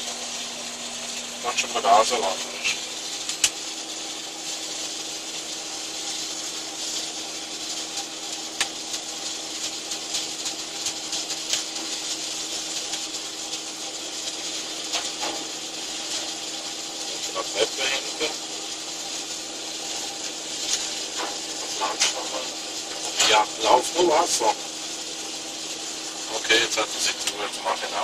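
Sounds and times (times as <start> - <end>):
rushing hissing machine noise: 0.0 - 28.0.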